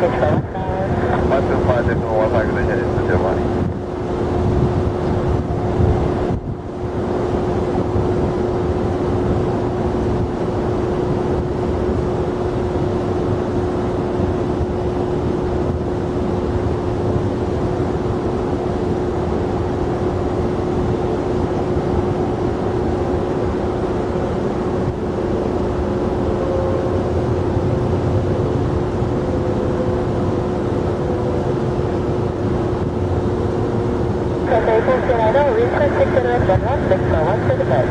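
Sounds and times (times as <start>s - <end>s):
jet engines running: 0.0s - 37.9s.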